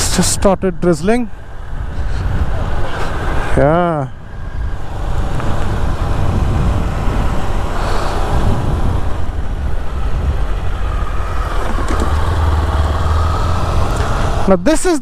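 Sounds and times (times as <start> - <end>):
wind rumble on microphone: 0.0 - 14.5
motorcycle engine: 1.3 - 14.6.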